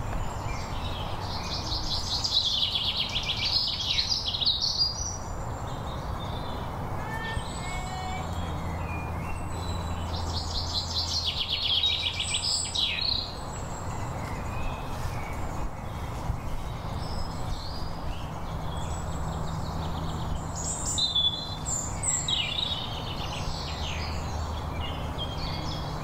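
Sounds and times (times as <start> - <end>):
birds singing and calling: 0.0 - 26.0.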